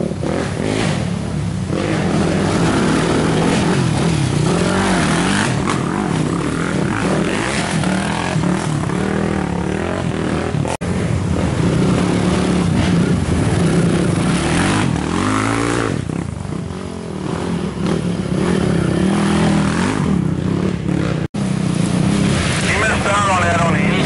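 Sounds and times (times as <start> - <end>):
atv engines revving: 0.0 - 24.0.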